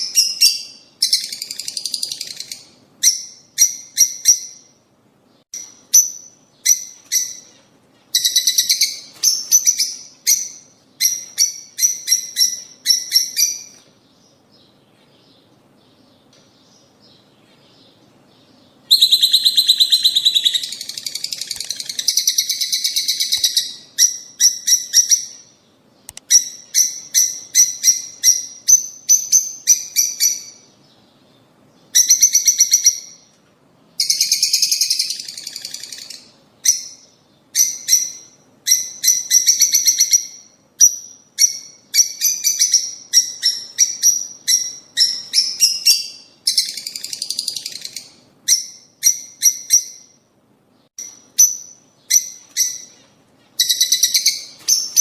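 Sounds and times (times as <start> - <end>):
lovebirds chirping and chattering: 0.0 - 50.2, 50.8 - 55.0.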